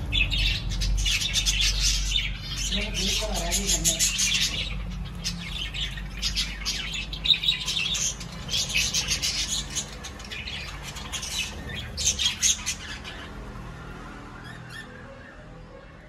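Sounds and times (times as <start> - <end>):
budgerigars chattering and squawking: 0.0 - 13.4.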